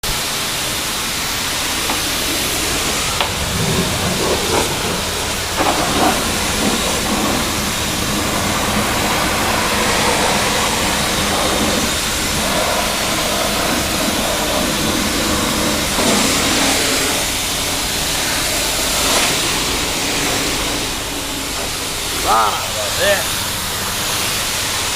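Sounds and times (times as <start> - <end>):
water spray hissing on car: 0.0 - 24.9.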